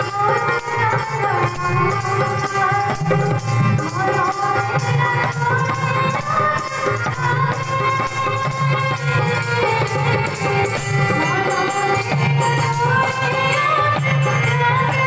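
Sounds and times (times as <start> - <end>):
hand percussion: 0.0 - 15.0
woman singing over loudspeaker: 0.0 - 15.0.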